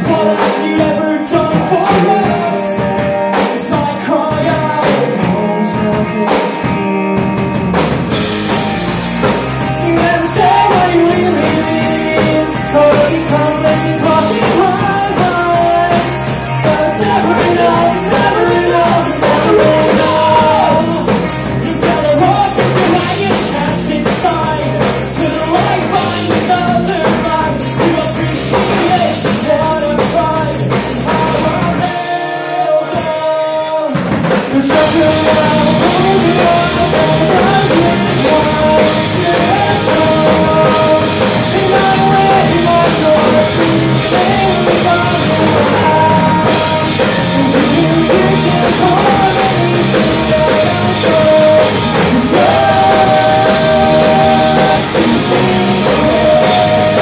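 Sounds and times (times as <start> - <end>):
person singing: 0.0 - 8.6, 9.2 - 57.0
bass guitar: 0.0 - 57.0
drum kit: 0.0 - 57.0
electric guitars: 0.0 - 57.0.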